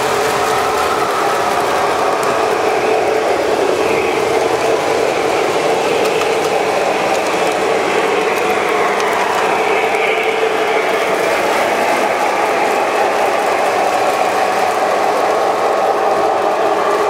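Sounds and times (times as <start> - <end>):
model train motors whirring: 0.0 - 17.0
wheels rolling on metal track: 0.0 - 17.0.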